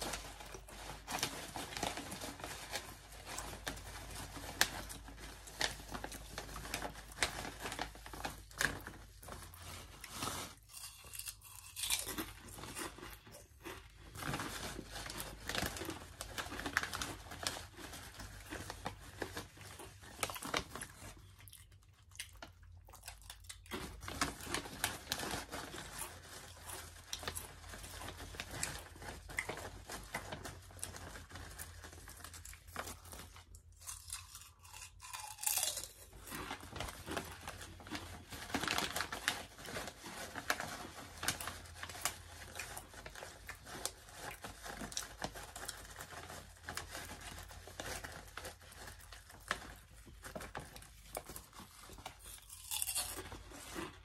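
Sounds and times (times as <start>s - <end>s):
person crunching potato chips: 0.0s - 54.0s.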